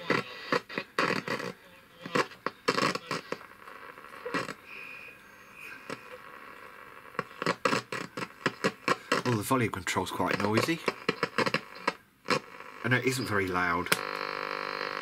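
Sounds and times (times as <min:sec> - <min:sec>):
radio loudspeaker crackling: 0:00.0 - 0:15.0.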